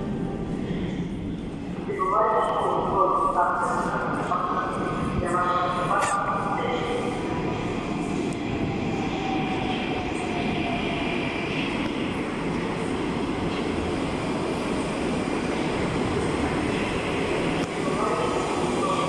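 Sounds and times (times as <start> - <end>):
metro train wheels rumbling on rails: 0.0 - 19.0.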